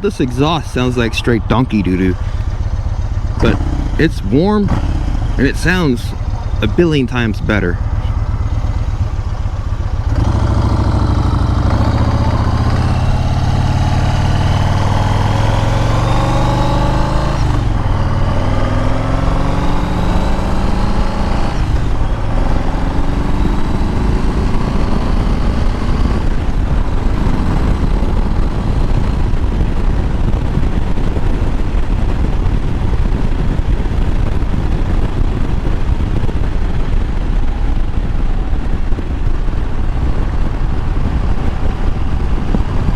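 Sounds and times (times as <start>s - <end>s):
motorcycle engine accelerating: 0.0s - 42.9s
wind rushing over microphone: 0.0s - 42.9s.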